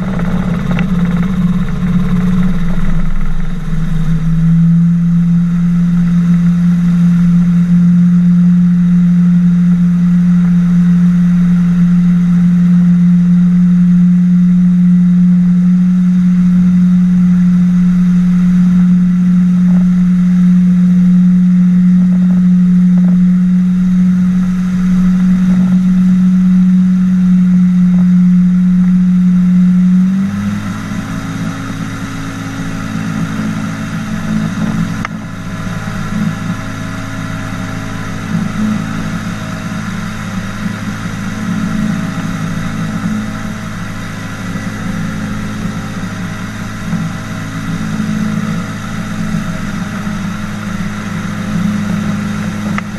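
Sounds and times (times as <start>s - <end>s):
engine and propeller humming: 0.0s - 52.9s.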